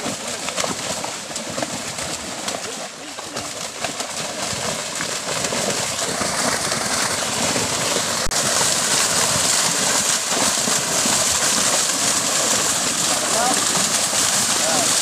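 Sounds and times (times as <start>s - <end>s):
fish thrashing and splashing: 0.0s - 15.0s.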